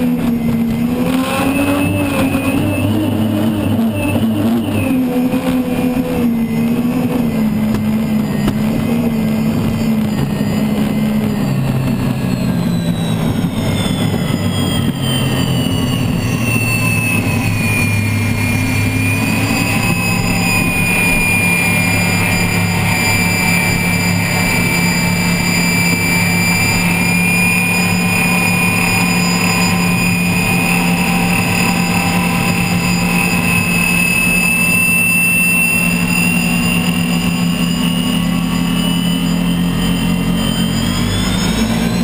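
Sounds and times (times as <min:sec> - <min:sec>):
low drone: 0:00.0 - 0:42.0
turbine engine whine: 0:00.0 - 0:42.0.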